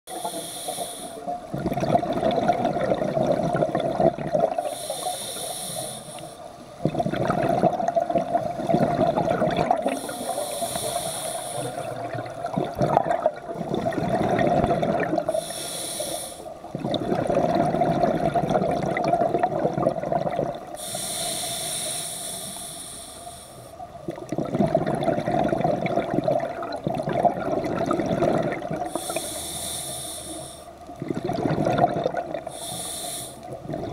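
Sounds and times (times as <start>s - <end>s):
exhale bubbling underwater: 0.2s - 5.7s, 6.8s - 22.8s, 23.9s - 33.9s.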